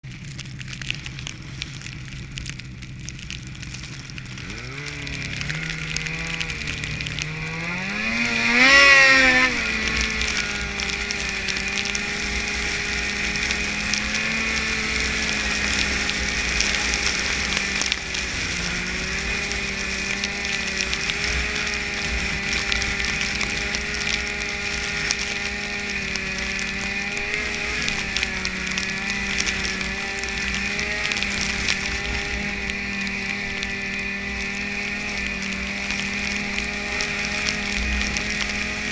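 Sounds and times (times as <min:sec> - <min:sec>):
snowmobile engine revving: 0:03.3 - 0:38.9.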